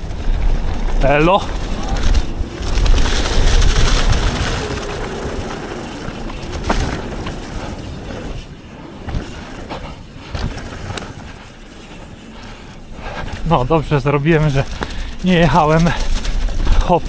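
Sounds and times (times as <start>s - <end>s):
bike rattling over bumps: 0.0s - 17.0s
bike tyre noise on dirt: 0.0s - 17.0s
wind rushing on microphone: 0.0s - 17.0s.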